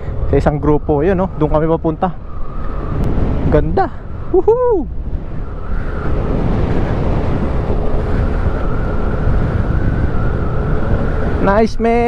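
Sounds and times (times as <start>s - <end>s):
engine running steadily: 0.0s - 12.0s
wind rumble on microphone: 0.0s - 12.0s.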